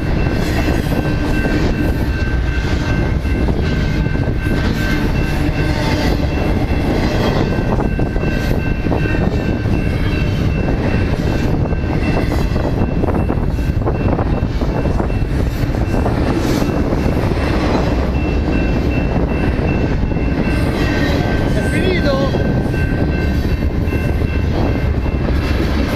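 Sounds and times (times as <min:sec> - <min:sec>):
rail clicks: 0:00.0 - 0:25.9
train rumbling and rattling: 0:00.0 - 0:25.9.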